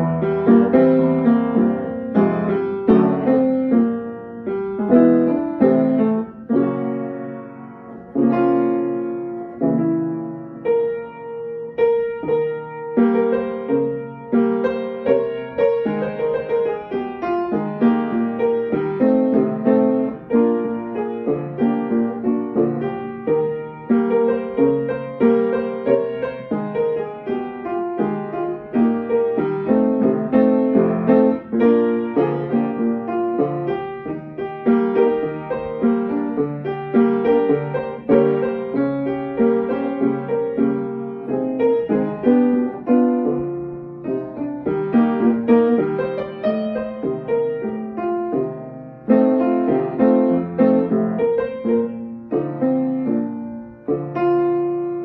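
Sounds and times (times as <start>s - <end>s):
upright piano playing: 0.0s - 55.0s.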